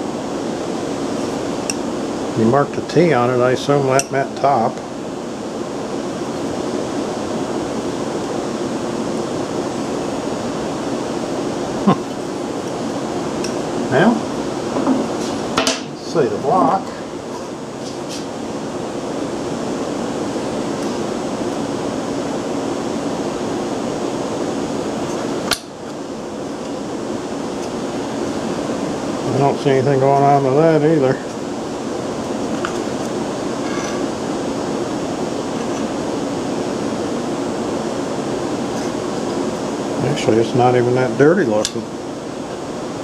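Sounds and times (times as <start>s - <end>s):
background hum: 0.0s - 43.0s.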